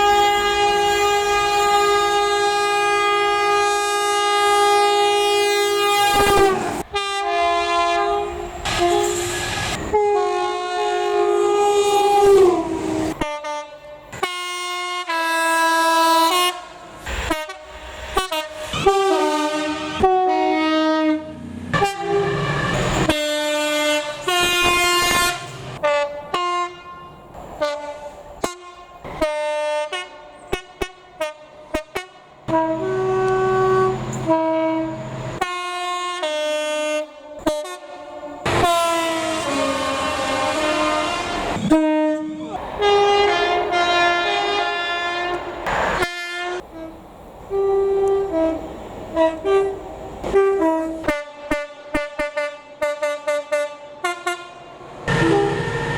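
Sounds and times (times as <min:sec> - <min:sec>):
locomotive two-tone air horns: 0:00.0 - 0:55.9.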